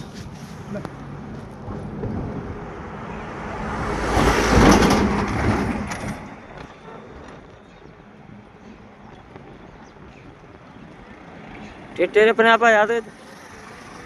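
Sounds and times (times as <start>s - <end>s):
road vehicle passing by: 0.0s - 7.6s, 10.0s - 14.0s.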